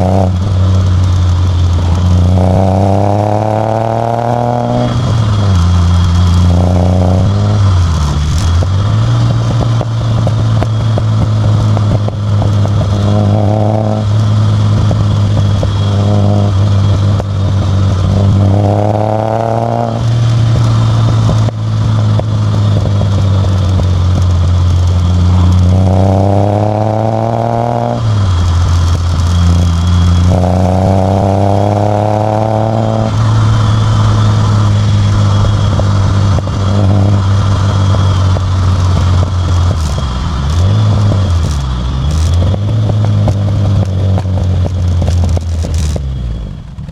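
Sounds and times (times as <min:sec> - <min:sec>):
car exhaust drone: 0:00.0 - 0:46.9
engine revving: 0:00.0 - 0:46.9
exhaust pops and crackles: 0:00.0 - 0:46.9.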